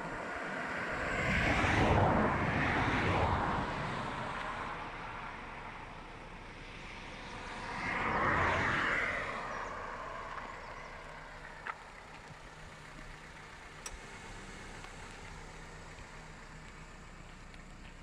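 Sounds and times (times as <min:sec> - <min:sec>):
outdoor background noise: 0:00.0 - 0:18.0
vehicle passing on road: 0:00.0 - 0:18.0.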